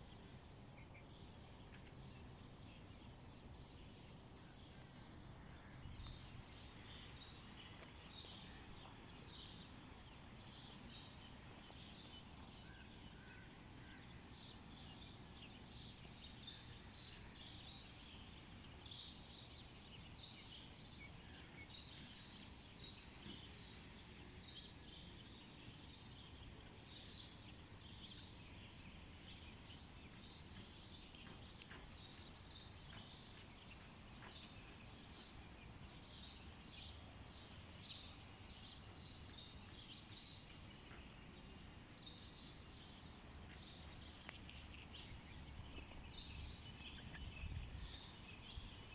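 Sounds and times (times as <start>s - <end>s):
faint birds chirping: 0.0s - 48.9s
low steady outdoor background noise: 0.0s - 48.9s.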